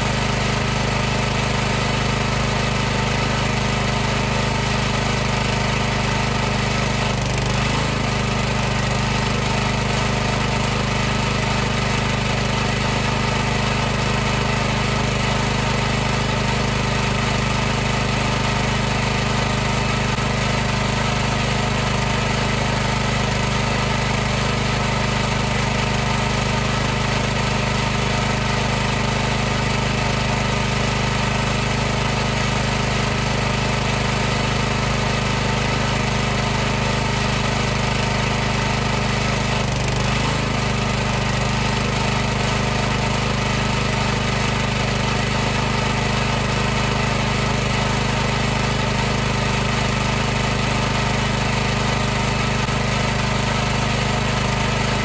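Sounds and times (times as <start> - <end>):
pressure washer running: 0.0 - 55.0.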